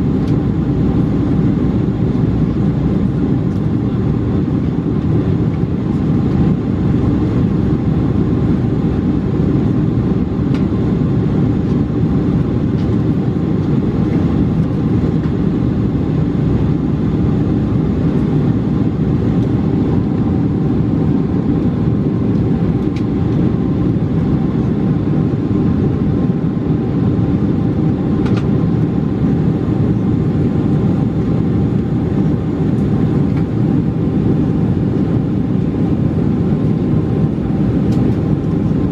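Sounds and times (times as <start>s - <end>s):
jet engine roar in cabin: 0.0s - 38.9s.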